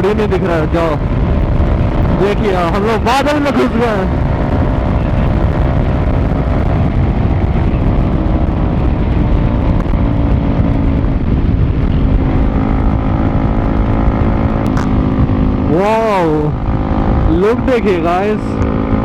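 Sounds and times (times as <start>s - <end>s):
motorcycle engine running: 0.0s - 19.0s
wind rumble on microphone: 0.0s - 19.0s.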